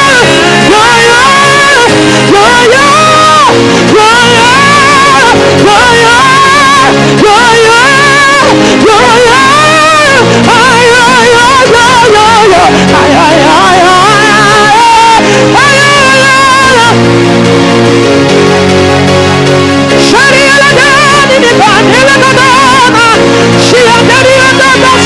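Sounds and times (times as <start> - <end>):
backing band chords: 0.0 - 25.0
person singing with vibrato: 0.0 - 25.0.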